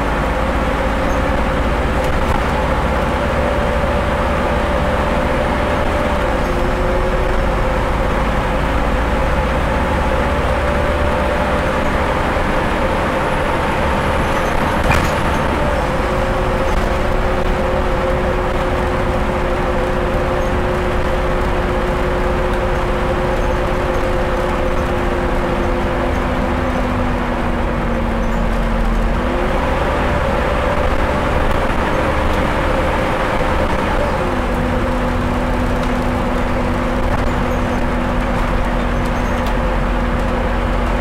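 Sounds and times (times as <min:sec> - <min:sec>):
bus diesel engine droning: 0:00.0 - 0:41.0
road noise: 0:00.0 - 0:41.0.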